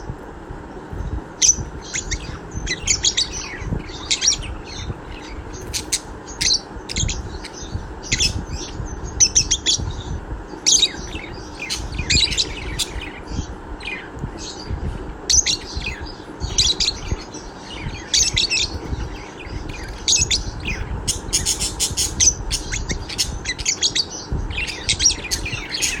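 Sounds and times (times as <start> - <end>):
budgie chirping: 1.4 - 14.7, 15.4 - 26.0.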